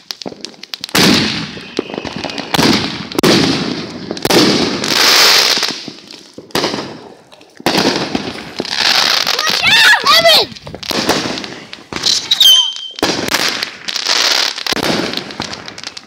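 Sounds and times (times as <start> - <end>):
fireworks bangs: 0.0 - 16.0
fireworks hissing: 0.0 - 16.0.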